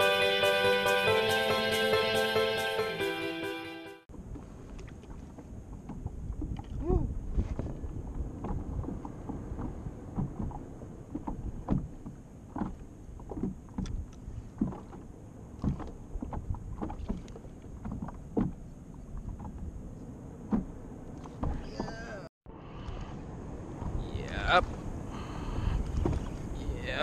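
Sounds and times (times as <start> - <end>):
small waves slapping a canoe hull: 4.1 - 22.2, 22.8 - 27.0
wind rumble on microphone: 4.1 - 27.0.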